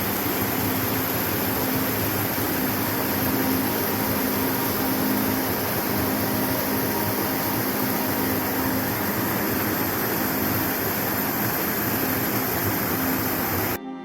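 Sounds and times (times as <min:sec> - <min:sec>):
creek water rushing: 0:00.0 - 0:13.8.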